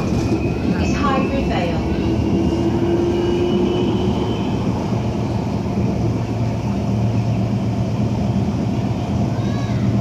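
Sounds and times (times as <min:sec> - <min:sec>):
tram wheels rumbling on rails: 0:00.0 - 0:10.0.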